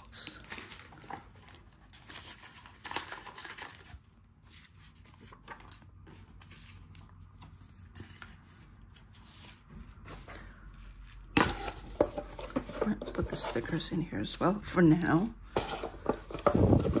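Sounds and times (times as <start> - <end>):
paper rustling: 0.0 - 13.8, 15.5 - 17.0.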